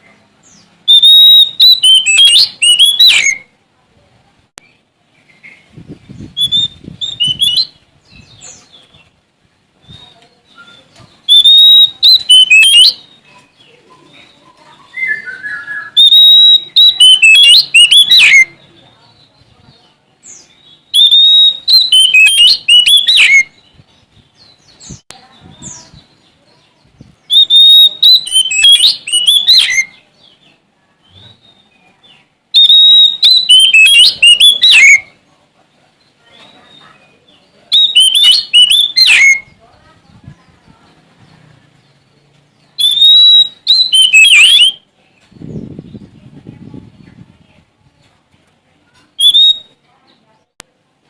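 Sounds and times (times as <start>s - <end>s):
magpie-robin singing: 0.0s - 3.6s, 4.6s - 9.2s, 9.8s - 35.3s, 36.0s - 47.6s, 49.0s - 50.5s.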